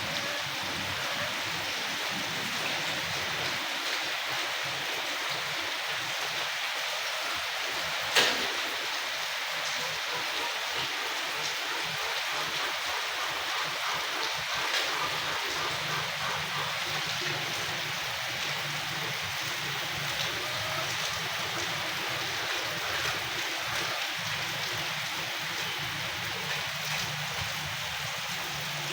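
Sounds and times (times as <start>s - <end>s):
rushing water: 0.0s - 28.9s.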